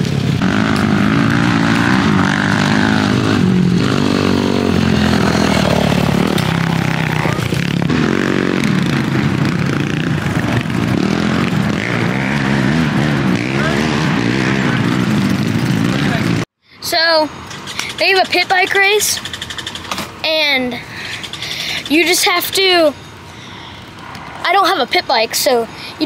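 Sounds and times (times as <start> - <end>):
quad engines revving: 0.0 - 26.0.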